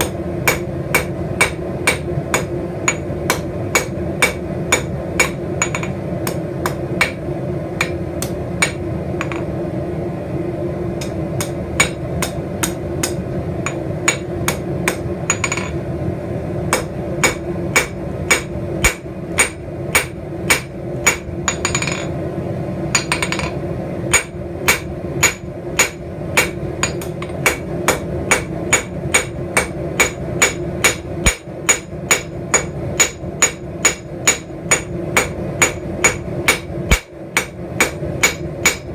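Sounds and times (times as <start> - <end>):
hammer striking steel on anvil: 0.0 - 7.2, 7.8 - 9.5, 11.0 - 15.8, 16.7 - 22.1, 23.0 - 38.9
steady hum: 0.0 - 38.9.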